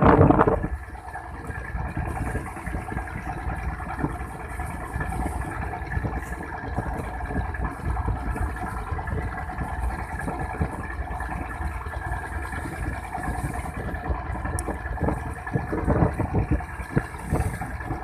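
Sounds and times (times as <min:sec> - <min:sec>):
motor running steadily: 0:00.0 - 0:18.0.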